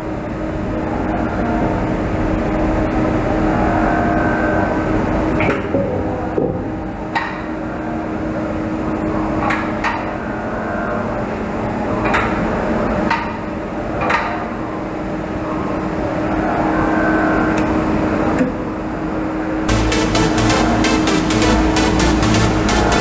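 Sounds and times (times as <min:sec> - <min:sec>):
machine-shop hum: 0:00.0 - 0:23.0.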